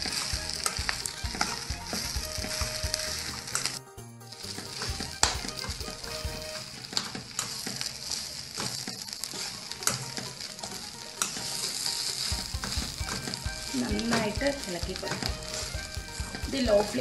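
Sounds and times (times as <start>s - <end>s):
metal spatula scraping a pan: 0.0s - 3.8s, 4.4s - 17.0s
food frying with steady sizzle: 0.0s - 17.0s.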